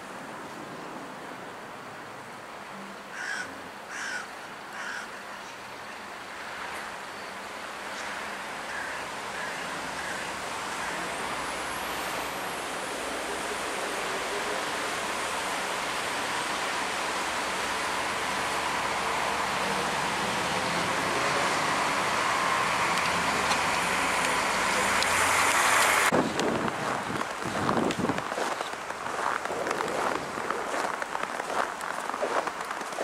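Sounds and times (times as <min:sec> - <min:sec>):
distant road traffic: 0:00.0 - 0:33.0.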